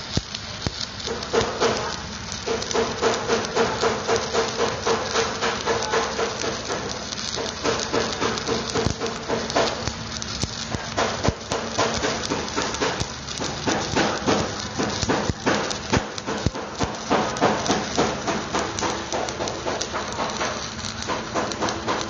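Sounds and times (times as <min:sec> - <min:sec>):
sharp pops: 0:00.0 - 0:22.0
welding arc crackling: 0:00.0 - 0:22.0.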